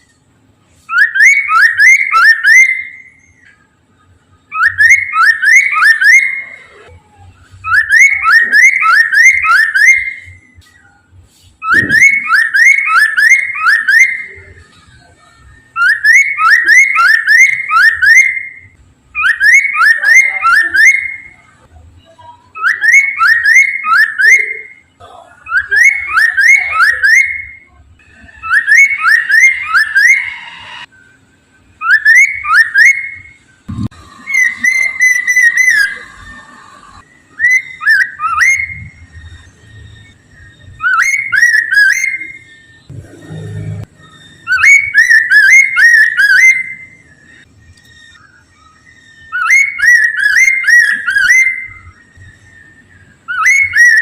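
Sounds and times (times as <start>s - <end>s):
laughingthrush singing rising whistles: 0.9s - 3.5s, 4.5s - 6.9s, 7.6s - 11.0s, 11.6s - 21.6s, 22.5s - 54.0s.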